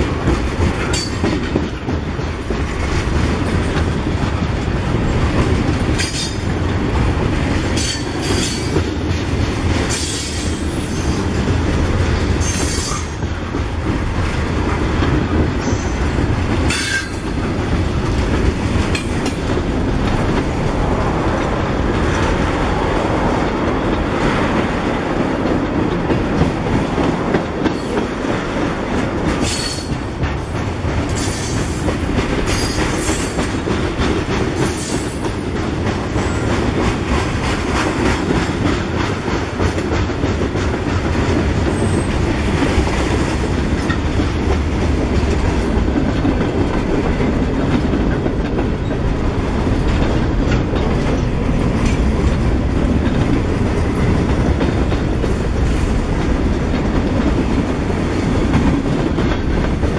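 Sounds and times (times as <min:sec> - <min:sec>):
train wheels clattering over rail joints: 0:00.0 - 0:59.9.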